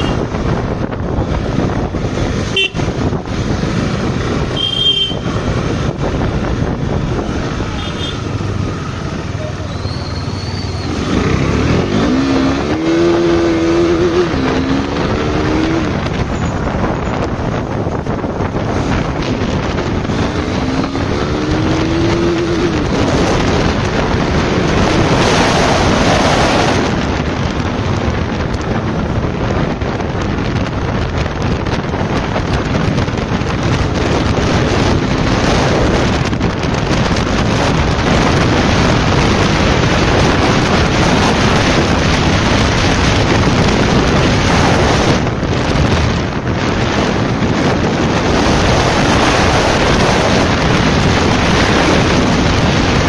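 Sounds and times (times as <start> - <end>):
motorcycle engine accelerating: 0.0 - 53.0
wind noise on microphone: 0.0 - 53.0.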